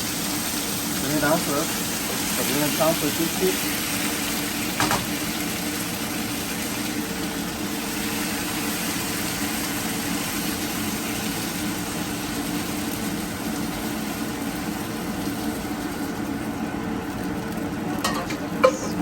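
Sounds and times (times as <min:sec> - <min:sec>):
food frying in a pan: 0:00.0 - 0:19.0.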